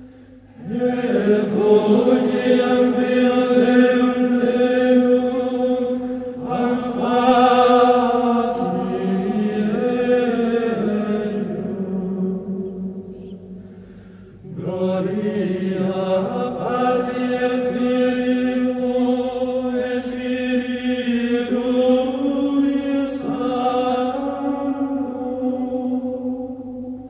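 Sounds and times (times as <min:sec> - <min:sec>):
unaccompanied chanted singing: 0:00.5 - 0:13.4, 0:14.4 - 0:27.0.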